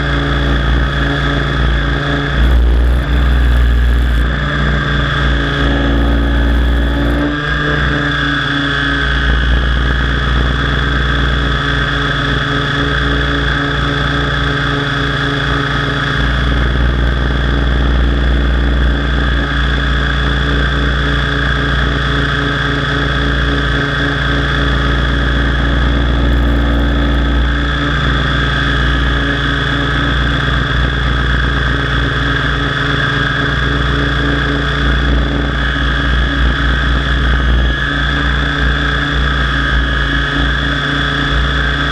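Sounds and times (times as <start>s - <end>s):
model helicopter rotor drone: 0.0s - 41.9s.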